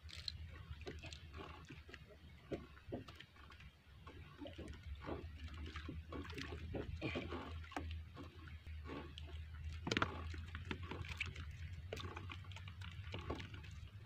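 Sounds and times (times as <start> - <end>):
small splashes and drips: 0.0 - 14.0
water lapping against canoe hull: 0.0 - 14.0.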